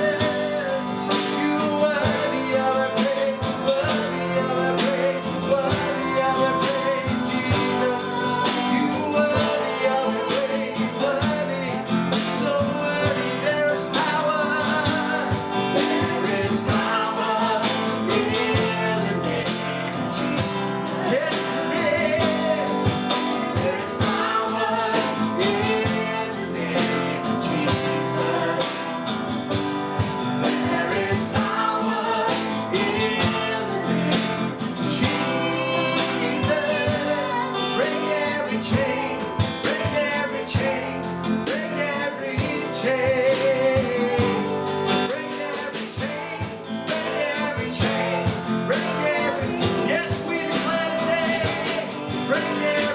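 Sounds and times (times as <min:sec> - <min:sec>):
person singing: 0:00.0 - 0:28.8, 0:30.4 - 0:52.9
band accompaniment: 0:00.0 - 0:52.9
strummed acoustic guitar: 0:00.0 - 0:52.9.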